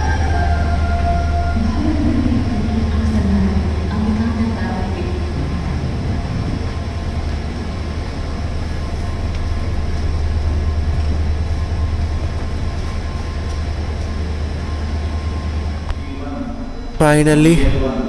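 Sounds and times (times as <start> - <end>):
train running with rail noise: 0.0 - 18.0.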